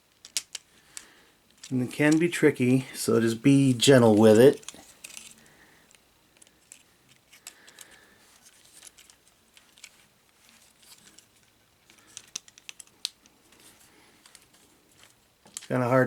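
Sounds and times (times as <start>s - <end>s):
plastic toy parts clicking: 0.1s - 2.2s, 4.6s - 15.7s.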